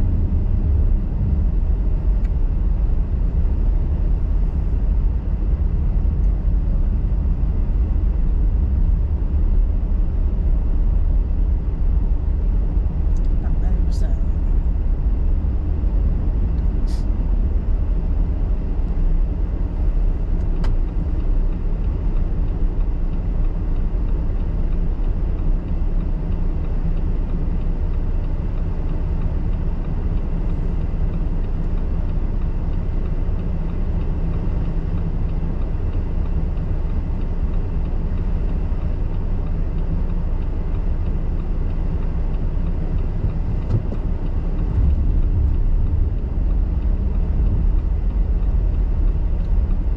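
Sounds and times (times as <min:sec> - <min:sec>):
car engine and tyre rumble: 0:00.0 - 0:49.9.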